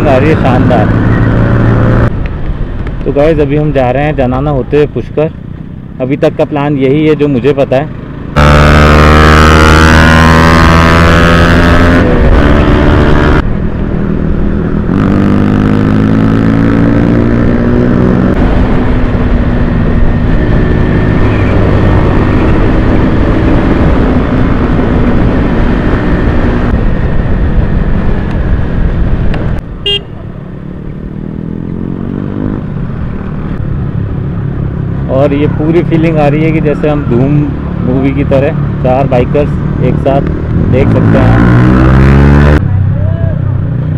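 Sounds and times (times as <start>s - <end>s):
motorcycle engine accelerating: 0.0s - 2.2s, 7.9s - 42.7s.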